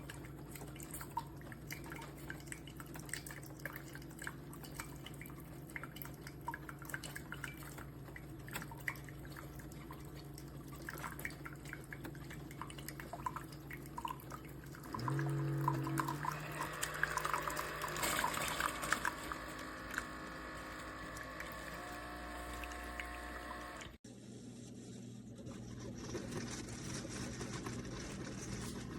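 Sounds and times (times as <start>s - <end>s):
coffee dripping: 0.0s - 24.0s
liquid pouring and splashing: 0.0s - 24.0s
pump humming: 0.0s - 24.0s.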